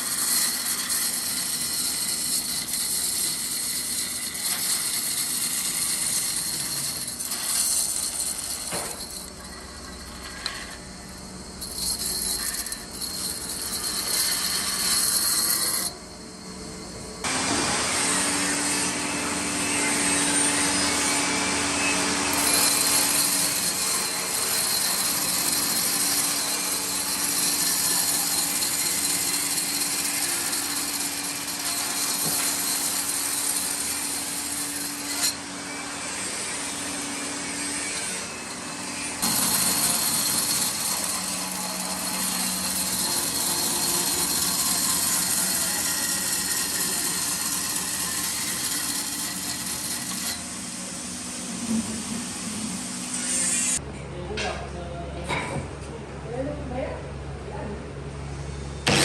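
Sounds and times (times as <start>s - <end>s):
power tool cutting wood: 0.0s - 10.7s, 11.6s - 16.0s, 17.2s - 50.6s, 51.5s - 53.8s.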